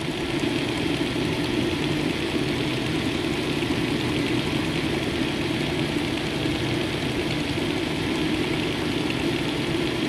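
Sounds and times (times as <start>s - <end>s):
refrigerator motor humming: 0.0s - 10.0s.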